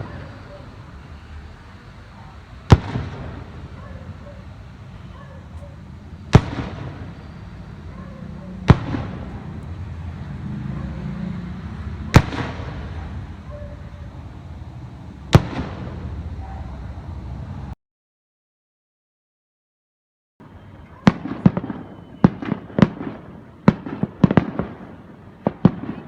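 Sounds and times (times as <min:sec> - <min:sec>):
fireworks bursting: 0:00.0 - 0:17.4, 0:20.4 - 0:26.0.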